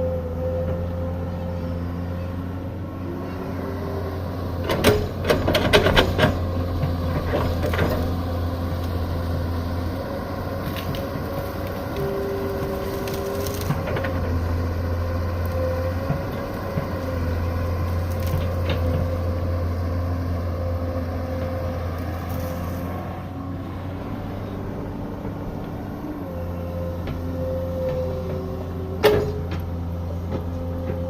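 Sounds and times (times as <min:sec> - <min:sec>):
excavator engine hum: 0:00.0 - 0:31.0
hydraulic whine: 0:00.0 - 0:31.0.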